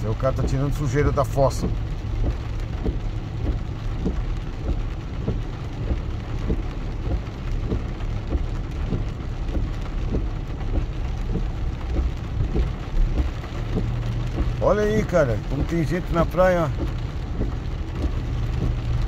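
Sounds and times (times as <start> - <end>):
rain falling: 0.0 - 19.0
raindrops hitting near microphone: 0.0 - 19.0
steady low rumble: 0.0 - 19.0.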